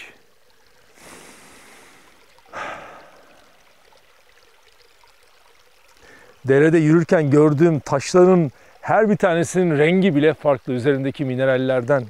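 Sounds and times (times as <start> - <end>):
rushing splashing water: 0.0 - 12.0
stream trickling over stones: 0.0 - 12.0.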